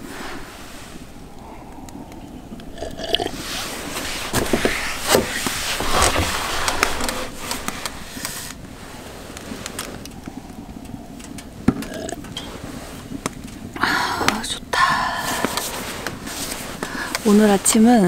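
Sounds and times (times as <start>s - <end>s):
wind blowing hard: 0.0s - 18.0s.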